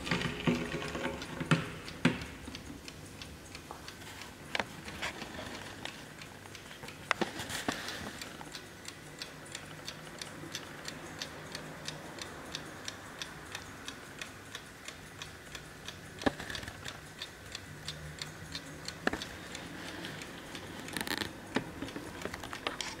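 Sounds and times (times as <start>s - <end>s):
mantel clock ticking: 0.0s - 23.0s.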